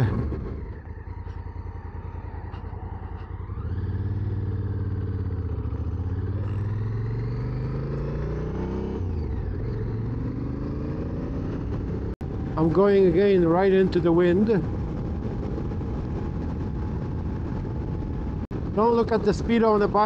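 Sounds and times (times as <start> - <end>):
motorcycle engine accelerating: 0.0 - 18.7
wind rushing over microphone: 0.0 - 20.0.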